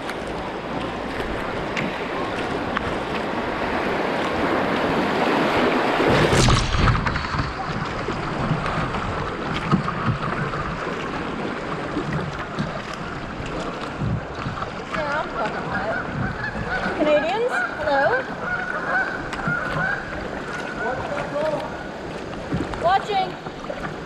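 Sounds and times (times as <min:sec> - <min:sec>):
kayak paddle splashing: 0:00.0 - 0:24.0
rushing river water: 0:00.0 - 0:24.0.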